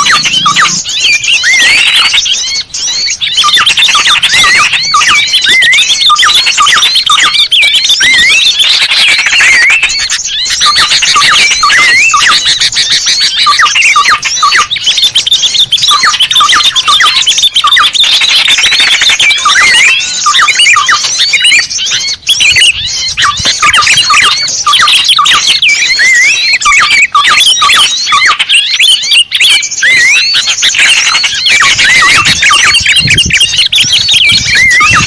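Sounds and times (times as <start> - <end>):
small birds chirping chorus: 0.0 - 35.0.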